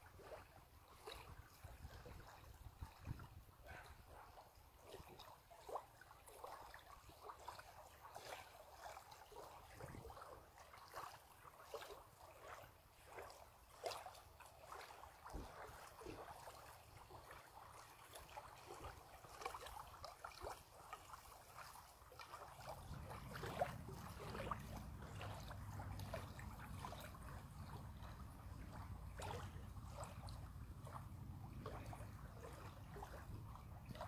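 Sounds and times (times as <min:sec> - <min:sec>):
wavelets lapping on sand: 0:00.0 - 0:34.0.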